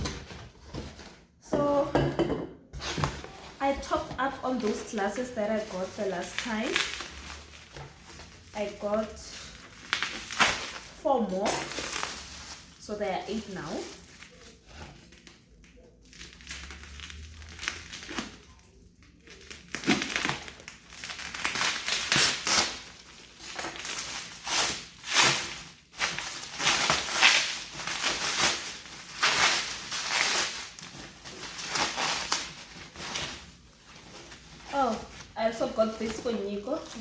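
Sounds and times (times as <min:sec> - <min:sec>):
plastic packaging crinkling: 0:02.8 - 0:37.0.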